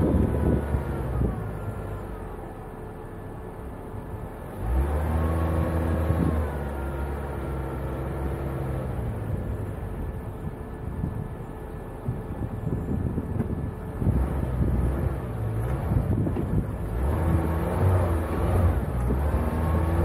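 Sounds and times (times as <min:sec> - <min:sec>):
car engine pulling through sand: 0:00.0 - 0:20.0.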